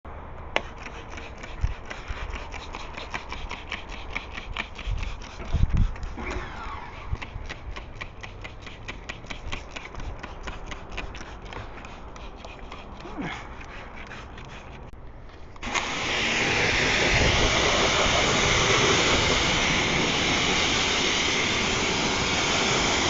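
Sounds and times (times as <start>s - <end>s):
stiff brush scrubbing: 0.6s - 15.0s, 15.6s - 23.0s.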